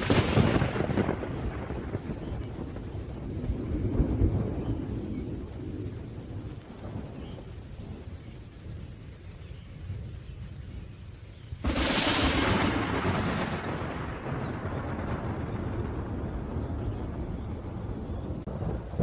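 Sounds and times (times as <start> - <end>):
rolling thunder: 0.0 - 10.1, 11.6 - 19.0
steady rain: 0.0 - 19.0.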